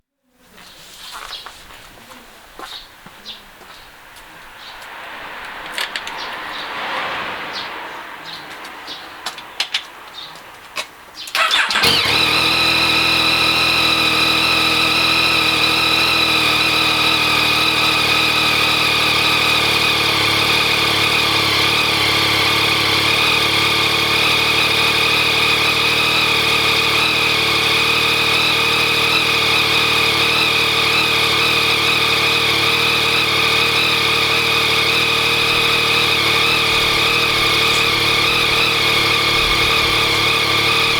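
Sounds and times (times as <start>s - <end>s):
motorcycle engine starting and idling: 3.5s - 40.9s.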